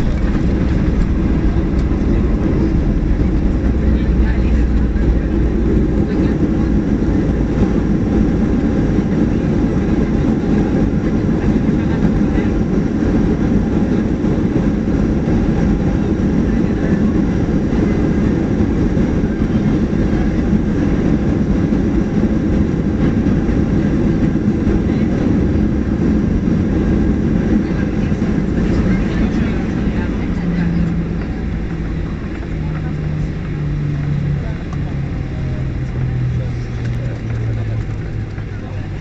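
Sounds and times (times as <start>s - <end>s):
jet engine noise in cabin: 0.0s - 39.0s
rumble of wheels and airframe: 0.0s - 39.0s.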